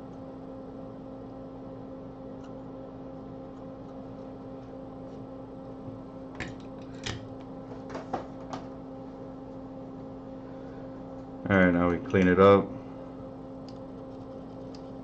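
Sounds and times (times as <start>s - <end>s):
extractor fan humming: 0.0s - 15.0s.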